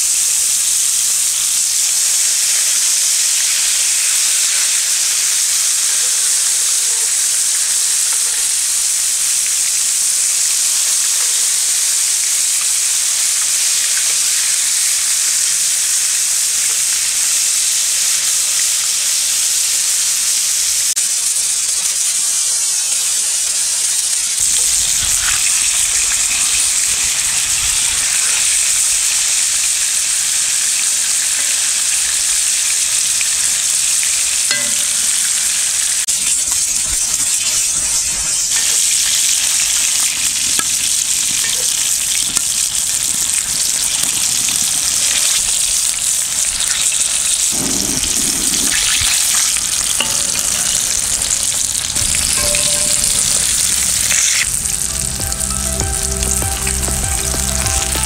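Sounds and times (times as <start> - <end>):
fish frying in hot oil: 0.0 - 58.0.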